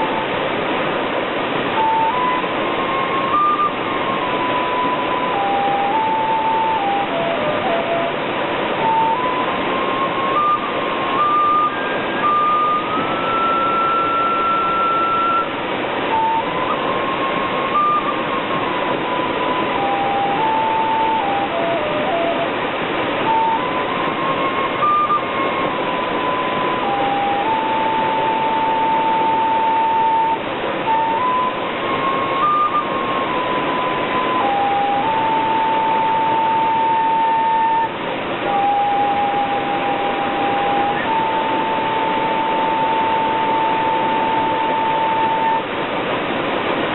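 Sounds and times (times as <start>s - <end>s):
flute melody: 0.0s - 0.4s, 1.6s - 45.8s
waterfall rushing: 0.0s - 46.9s.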